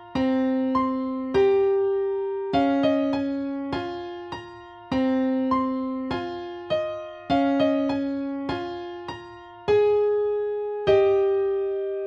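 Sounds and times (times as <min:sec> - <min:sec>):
slow gentle piano melody: 0:00.0 - 0:12.0.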